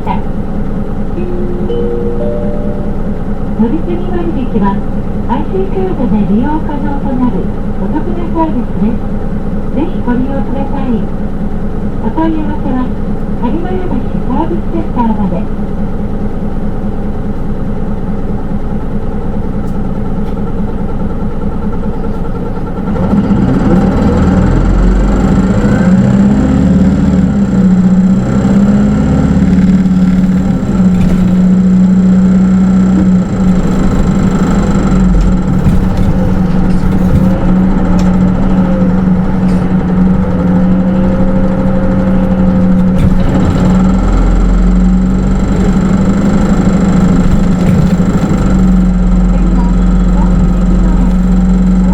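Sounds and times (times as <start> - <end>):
bus diesel engine rumbling: 0.0 - 51.9.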